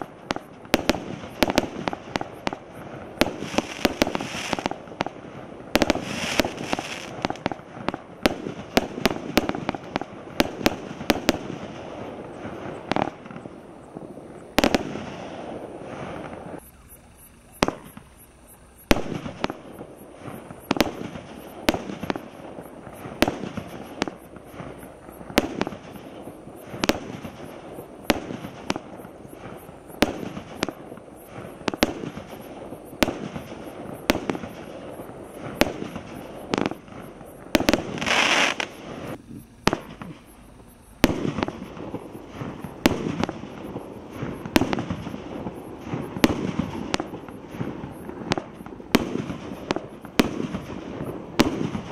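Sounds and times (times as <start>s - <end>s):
firework hissing rush: 0.0s - 51.9s
fireworks banging: 0.0s - 51.9s.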